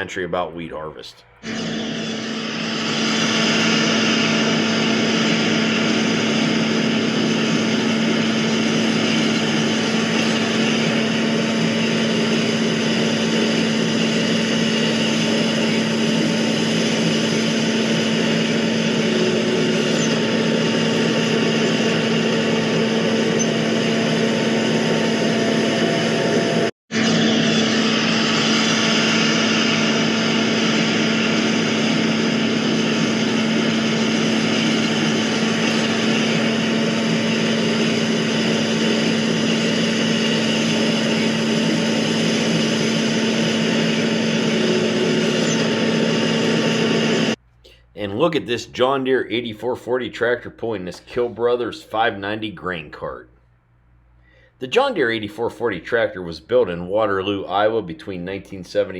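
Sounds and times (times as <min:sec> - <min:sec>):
quadcopter propellers humming: 0:00.0 - 0:47.4.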